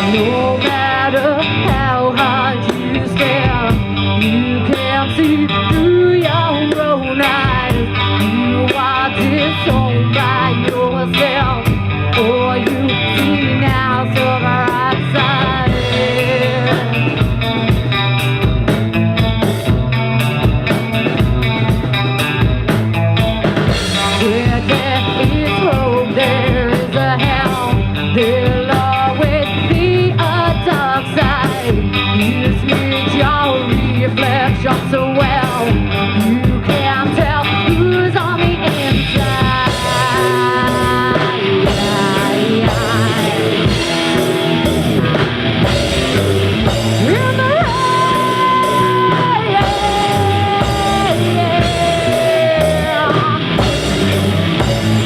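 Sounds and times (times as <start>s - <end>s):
electric guitar solo: 0.0s - 55.0s
live rock band playing: 0.0s - 55.0s.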